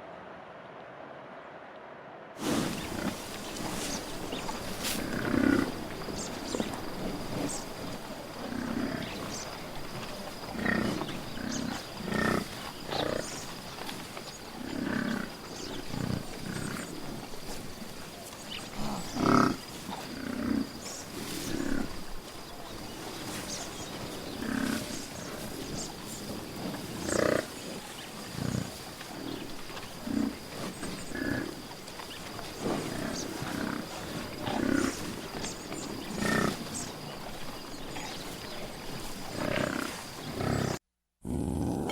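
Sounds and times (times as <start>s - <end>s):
animal grunting and growling: 2.4s - 41.9s.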